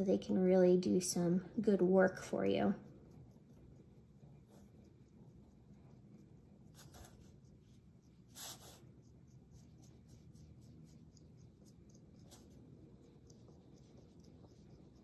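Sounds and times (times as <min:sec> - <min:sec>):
clay tool scratching clay: 0:02.8 - 0:15.0.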